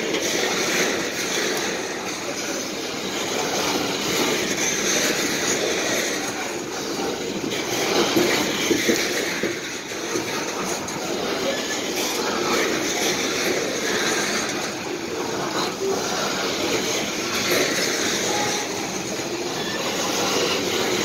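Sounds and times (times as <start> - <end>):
train wheels rumbling and clacking: 0.0 - 21.0.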